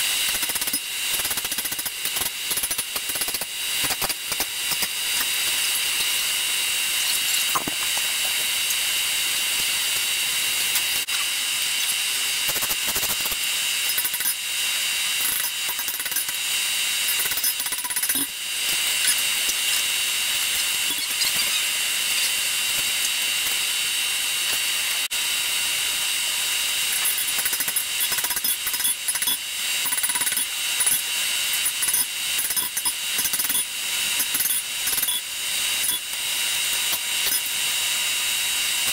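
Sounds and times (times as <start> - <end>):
loud machine whir: 0.0 - 38.9.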